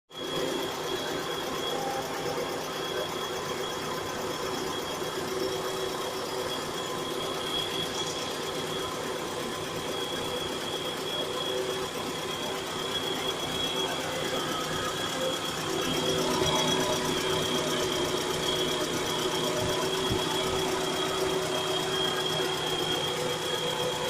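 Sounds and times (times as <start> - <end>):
steady high whine: 0.1 - 24.0.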